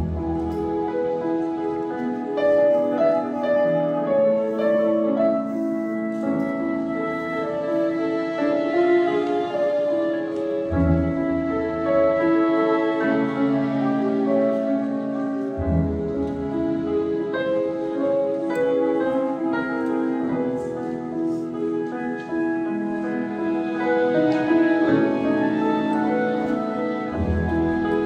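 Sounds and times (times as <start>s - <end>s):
grand piano: 0.0s - 28.0s
orchestra strings holding chords: 0.0s - 28.0s.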